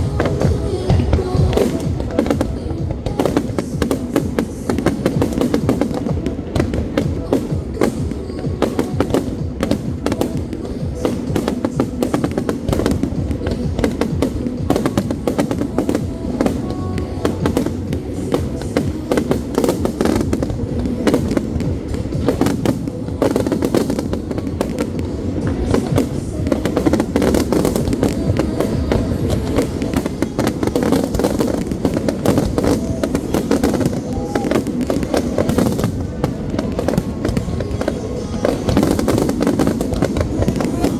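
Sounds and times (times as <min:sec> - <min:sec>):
fireworks bangs and crackles: 0:00.0 - 0:40.9
music: 0:00.0 - 0:40.9.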